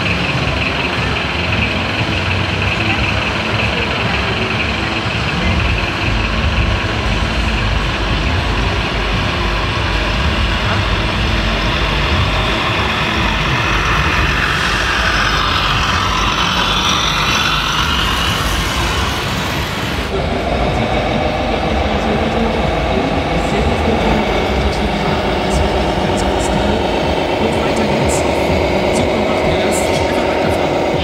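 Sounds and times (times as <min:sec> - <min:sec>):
diesel truck engine sound: 0:00.0 - 0:31.0.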